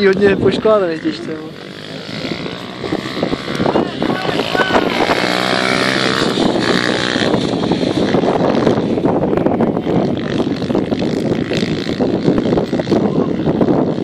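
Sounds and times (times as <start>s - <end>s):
minibike engine running: 0.0s - 14.0s.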